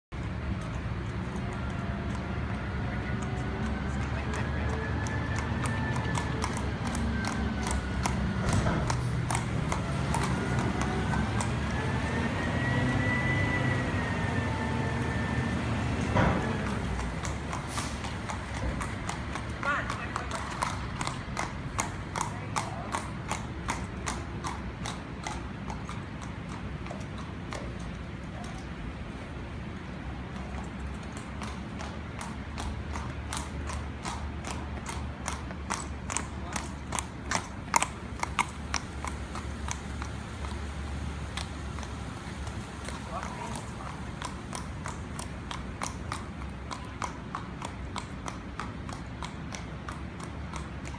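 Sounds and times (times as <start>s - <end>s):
horse hooves trotting on pavement: 0.1s - 50.9s.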